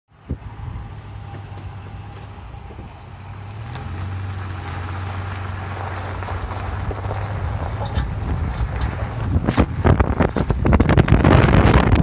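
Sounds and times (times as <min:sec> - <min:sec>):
car wheel droning: 0:00.2 - 0:12.0.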